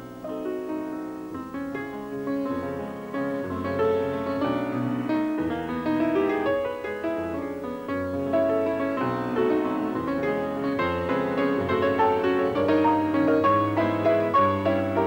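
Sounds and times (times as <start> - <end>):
instrumental dance music with piano: 0.0 - 15.0.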